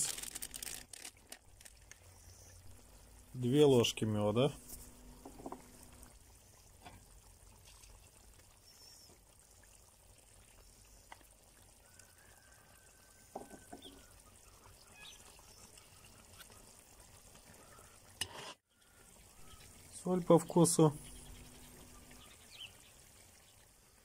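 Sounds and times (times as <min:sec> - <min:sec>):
stew simmering faintly: 0:00.0 - 0:24.0.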